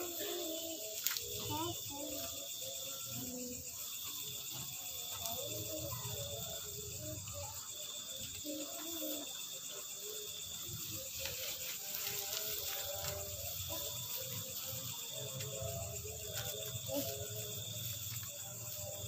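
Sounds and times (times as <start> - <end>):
crickets chirping: 0.0 - 19.0
faint voices: 0.0 - 19.0.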